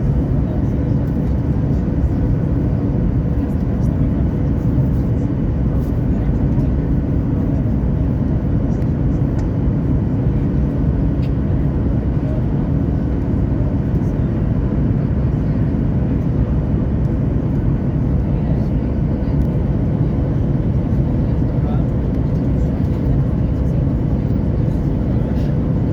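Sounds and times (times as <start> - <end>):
jet engines rumbling: 0.0 - 25.9.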